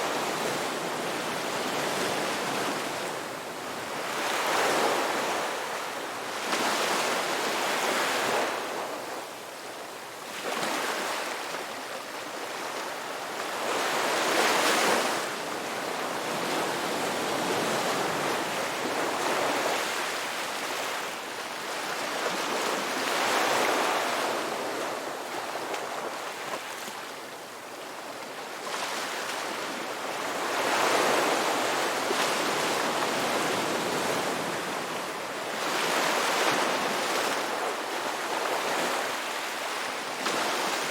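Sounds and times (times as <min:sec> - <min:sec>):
ocean waves breaking on shore: 0:00.0 - 0:09.5, 0:10.3 - 0:40.9.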